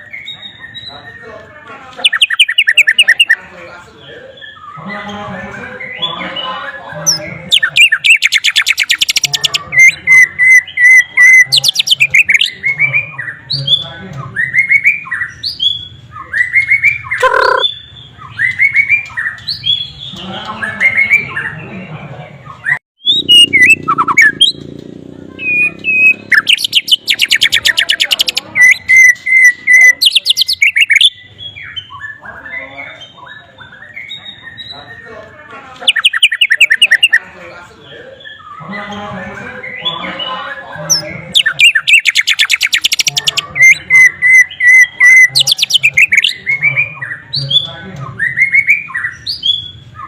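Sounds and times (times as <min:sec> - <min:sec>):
songbird singing varied song: 0:00.0 - 0:03.4, 0:04.0 - 0:21.8, 0:22.5 - 0:50.0.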